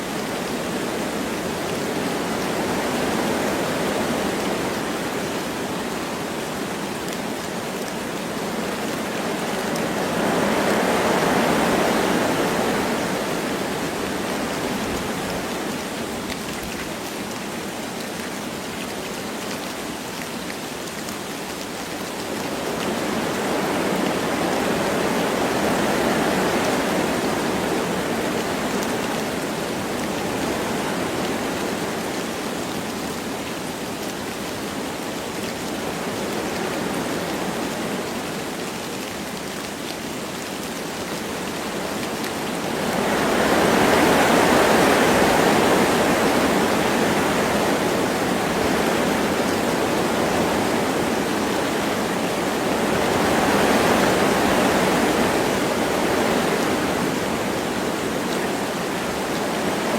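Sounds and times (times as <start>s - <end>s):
light rain falling: 0.0s - 59.9s
wind through trees: 0.0s - 59.9s.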